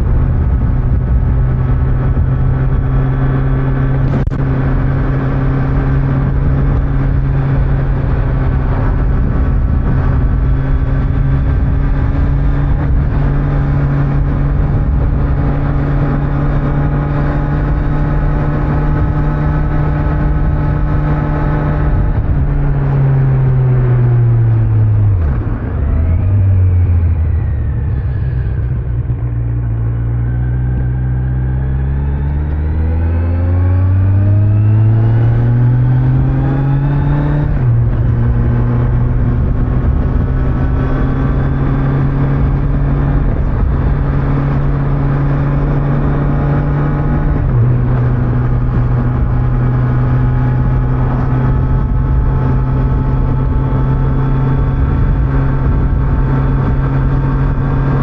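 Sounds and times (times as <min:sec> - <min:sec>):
motorcycle engine revving: 0:00.0 - 0:58.0
road noise: 0:00.0 - 0:58.0.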